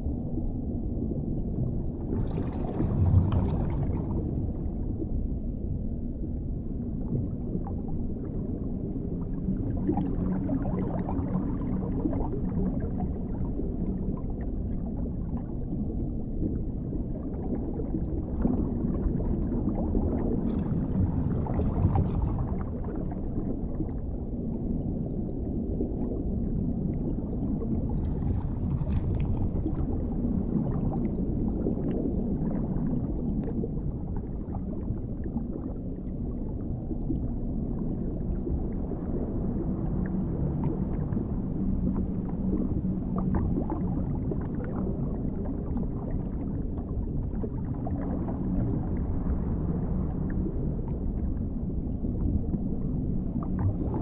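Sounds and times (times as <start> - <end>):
underwater low rumble: 0.0 - 54.0.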